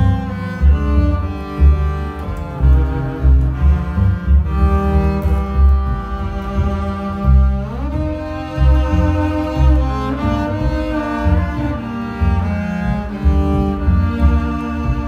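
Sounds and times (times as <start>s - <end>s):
bowed double basses: 0.0s - 15.0s.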